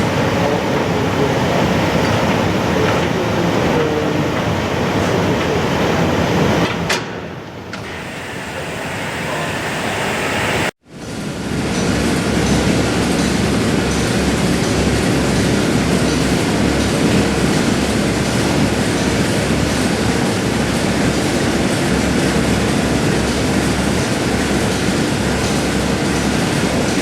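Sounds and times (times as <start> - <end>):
furnace machinery rumbling: 0.0 - 27.0.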